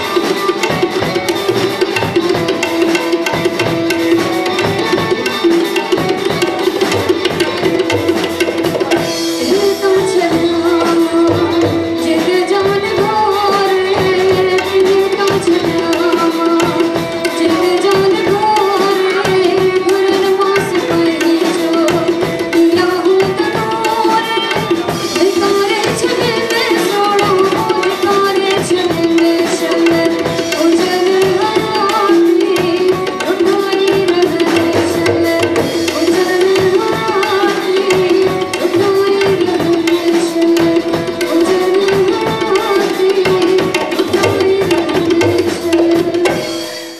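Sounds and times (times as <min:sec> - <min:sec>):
woman singing into a microphone: 0:00.0 - 0:46.8
fast tabla drumming: 0:00.0 - 0:46.9.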